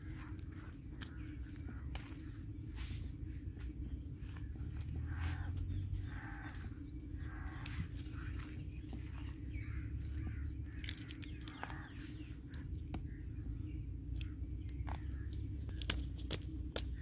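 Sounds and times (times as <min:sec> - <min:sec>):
birds chirping and calling: 0:00.0 - 0:17.0
low rumble: 0:00.0 - 0:17.0.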